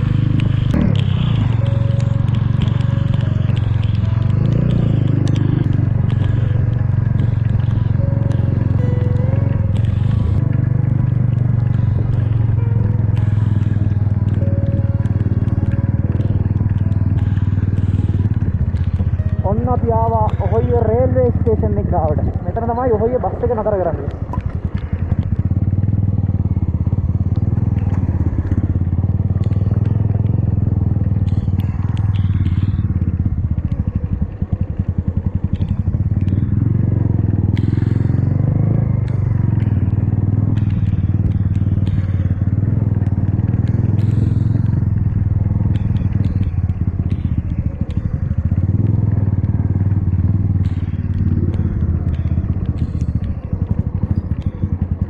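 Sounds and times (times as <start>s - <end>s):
motorcycle engine running: 0.0s - 55.0s
small crackles and clicks: 0.0s - 55.0s.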